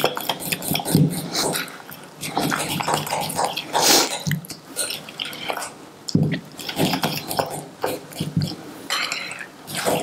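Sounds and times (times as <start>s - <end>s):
fork beating wet filling: 0.0s - 10.0s.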